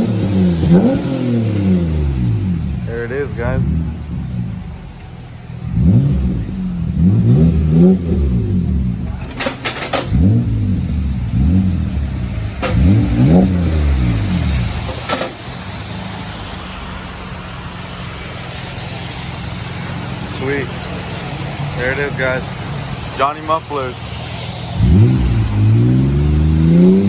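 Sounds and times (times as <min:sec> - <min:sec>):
car engine revving and idling: 0:00.0 - 0:27.0.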